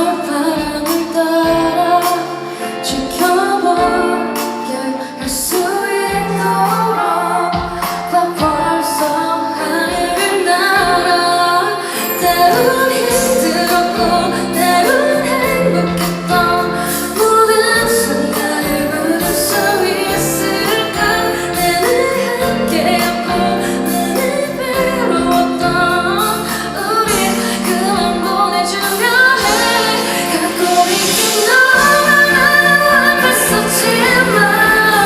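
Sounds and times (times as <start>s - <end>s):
band accompaniment: 0.0s - 35.0s
woman singing pop song: 0.0s - 35.0s.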